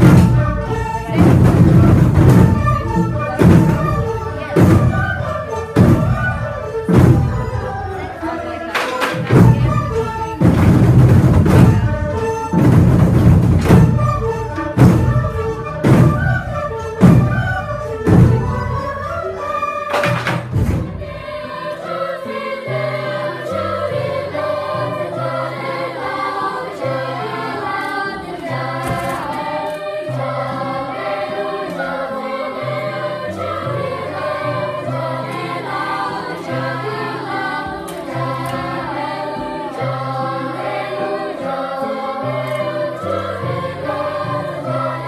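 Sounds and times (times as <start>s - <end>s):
children's choir singing: 0.0s - 45.0s.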